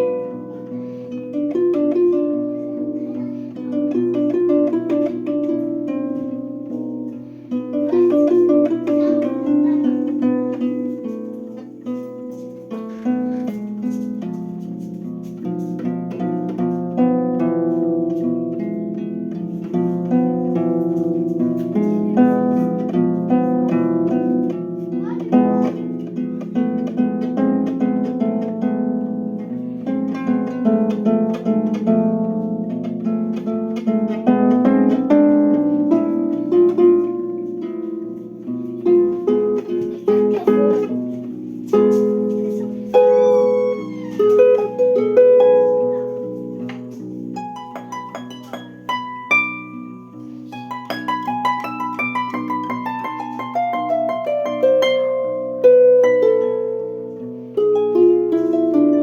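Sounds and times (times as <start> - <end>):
plucked string instrument: 0.0 - 59.0.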